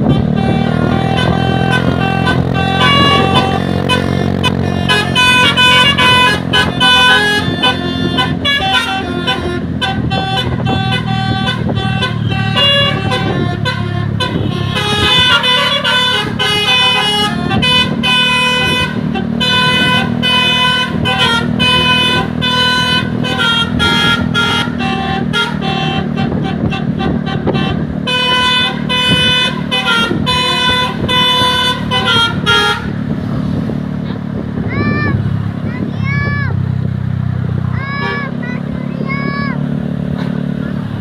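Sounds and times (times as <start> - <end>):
bus horns playing tunes: 0.0 - 36.6, 37.5 - 41.0
bus engines running: 0.0 - 41.0.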